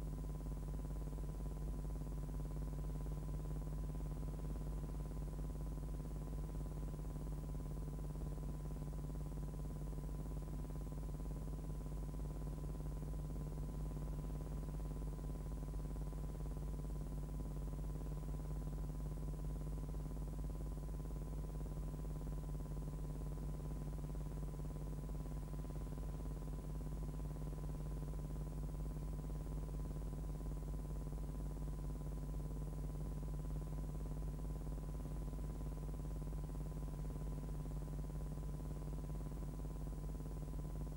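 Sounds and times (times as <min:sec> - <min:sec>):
low electrical hum: 0:00.0 - 0:40.9.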